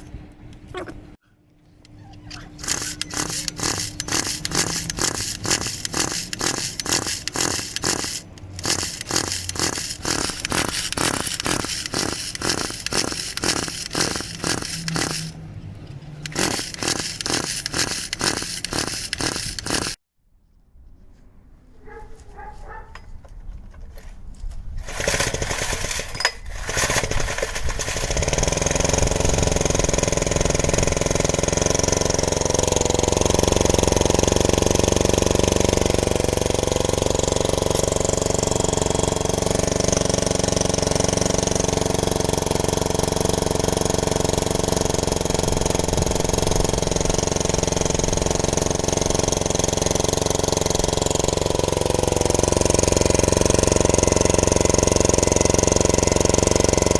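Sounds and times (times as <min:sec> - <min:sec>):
generator engine starting and running: 0:01.6 - 0:20.0, 0:24.8 - 0:56.9.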